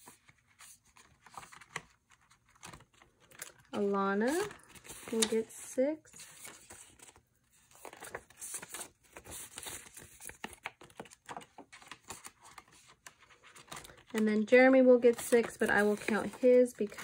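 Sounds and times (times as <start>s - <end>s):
paper and plastic crinkling: 0.0s - 17.0s.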